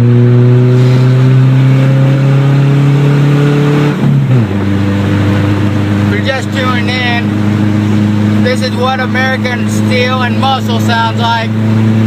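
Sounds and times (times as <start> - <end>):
loud engine revving without muffler: 0.0 - 12.0.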